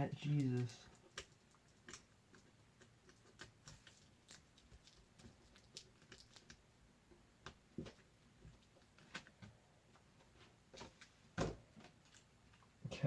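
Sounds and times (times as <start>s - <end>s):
faint clicks and taps of small parts: 0.3s - 11.1s.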